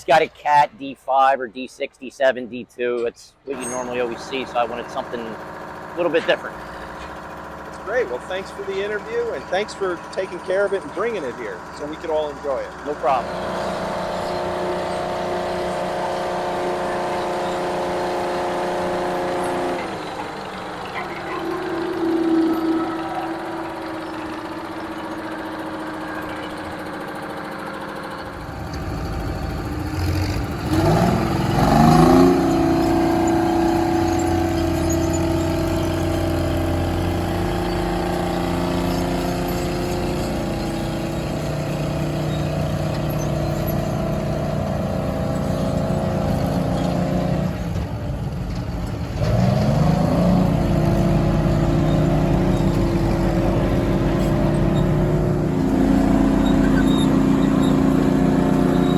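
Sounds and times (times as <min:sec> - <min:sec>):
diesel engine revving: 0:00.0 - 0:58.9.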